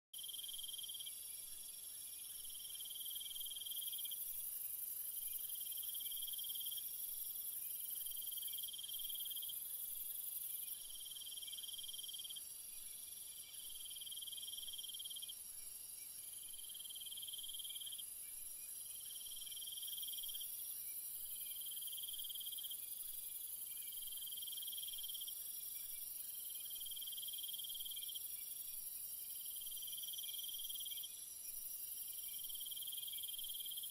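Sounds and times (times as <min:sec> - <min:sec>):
insect chirring trill: 0:00.2 - 0:33.9.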